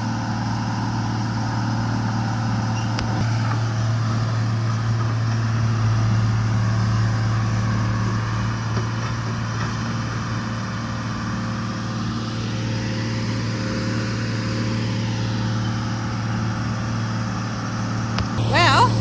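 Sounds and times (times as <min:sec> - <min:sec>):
excavator diesel engine humming: 0:00.0 - 0:19.0.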